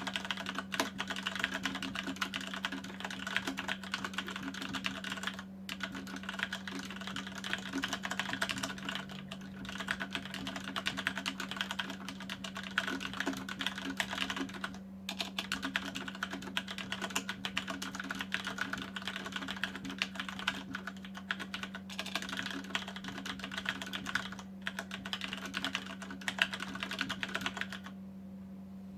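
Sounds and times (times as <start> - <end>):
fast typing on mechanical keyboard: 0.0 - 27.9
steady low hum: 0.0 - 28.9.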